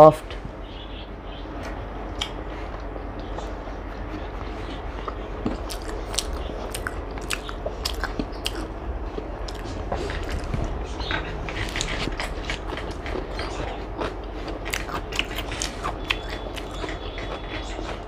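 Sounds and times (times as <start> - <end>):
low steady hum: 0.0 - 18.0
close chewing with mouth clicks: 2.1 - 18.0.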